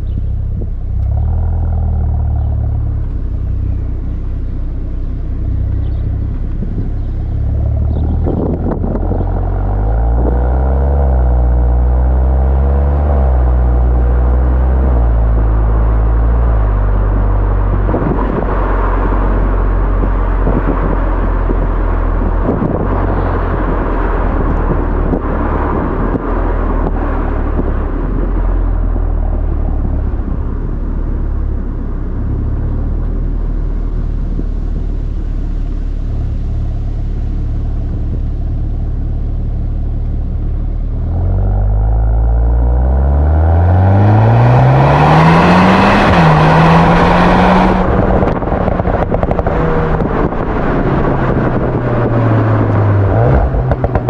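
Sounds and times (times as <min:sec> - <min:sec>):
low car exhaust note: 0:00.0 - 0:54.0
road and wind noise: 0:00.0 - 0:54.0.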